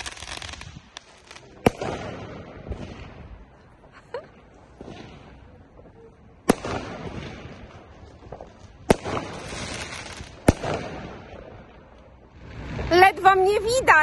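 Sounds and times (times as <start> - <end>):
fireworks bangs echoing: 0.0 - 3.9, 4.5 - 13.8.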